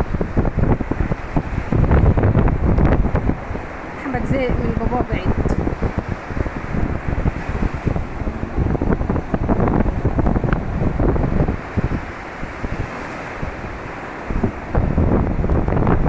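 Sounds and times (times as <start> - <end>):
sea surf: 0.0 - 16.0
wind buffeting microphone: 0.0 - 16.0.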